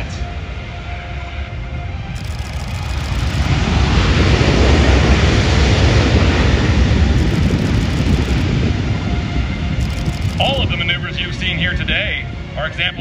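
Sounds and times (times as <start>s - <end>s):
jet engines roaring: 1.5s - 13.0s.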